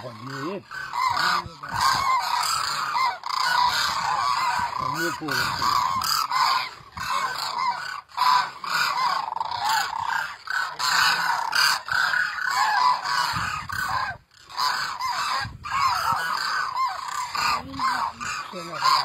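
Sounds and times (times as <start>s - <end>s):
flock of cranes calling: 0.0s - 19.0s.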